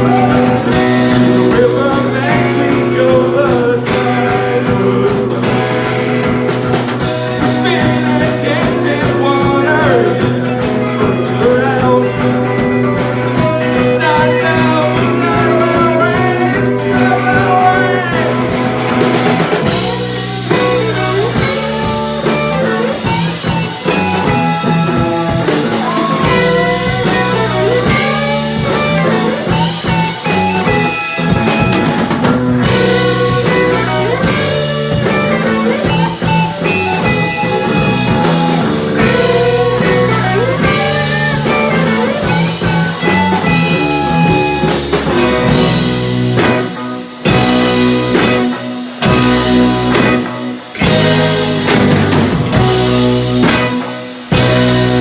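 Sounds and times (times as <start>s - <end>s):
bass guitar: 0.0s - 55.0s
drum kit playing: 0.0s - 55.0s
electric lead guitar soloing: 0.0s - 55.0s.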